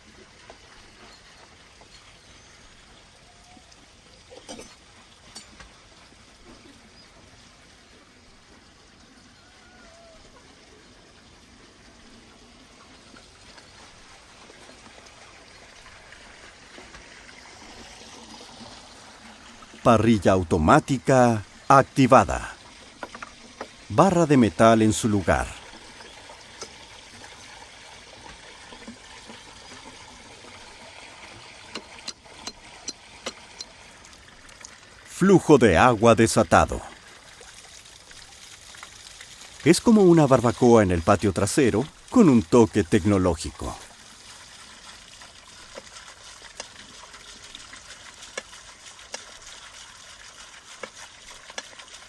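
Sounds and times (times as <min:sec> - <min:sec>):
water trickling and flowing: 0:00.0 - 0:52.0.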